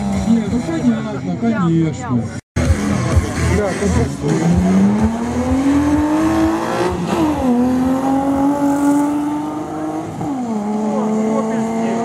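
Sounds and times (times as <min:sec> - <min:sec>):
car engine at full throttle: 0:00.0 - 0:01.6, 0:02.6 - 0:12.0.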